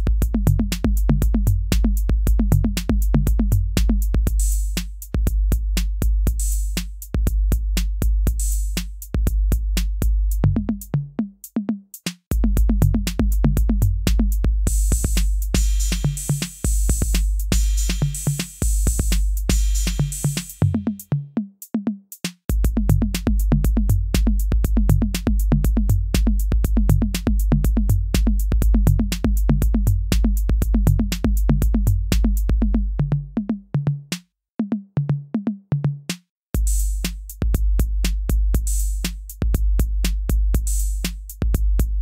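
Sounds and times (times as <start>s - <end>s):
electronic music with drum-machine beat: 0.0s - 34.2s, 34.8s - 42.0s.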